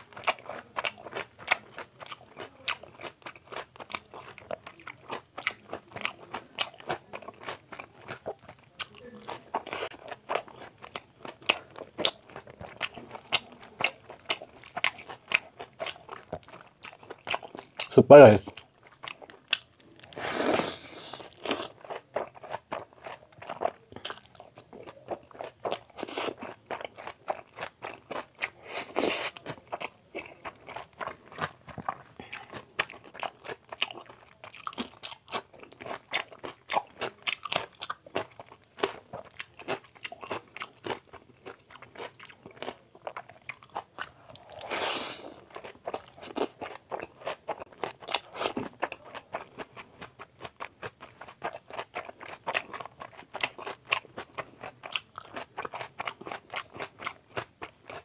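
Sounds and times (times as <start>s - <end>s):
man chewing and lip smacking: 0.0s - 58.0s.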